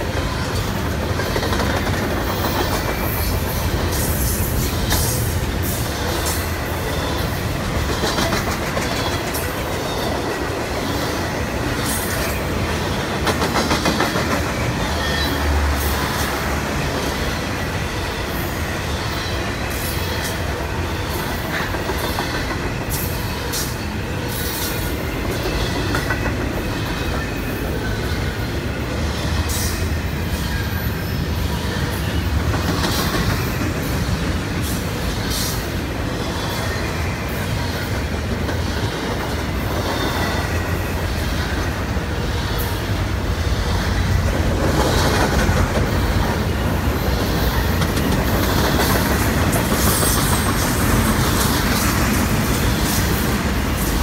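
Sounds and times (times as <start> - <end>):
wheels clacking over rail joints: 0.0 - 18.3, 18.9 - 42.8, 43.4 - 54.0
freight train rumble: 0.0 - 54.0.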